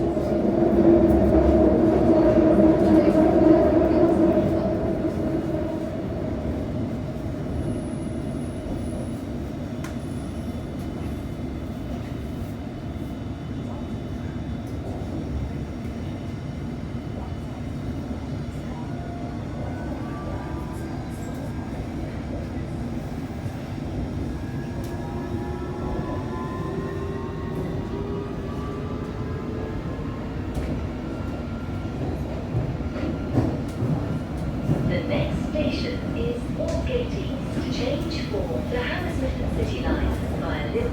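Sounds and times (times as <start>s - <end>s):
underground train wheels rumbling: 0.0s - 20.1s, 21.0s - 40.9s.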